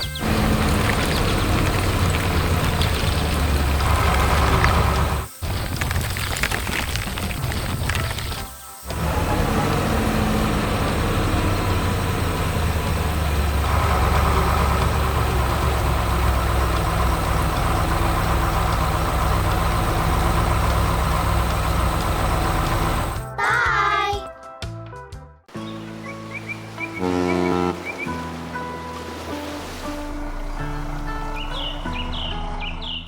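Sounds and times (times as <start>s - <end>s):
heavy vehicle engine rumbling: 0.0s - 23.2s, 25.6s - 33.0s.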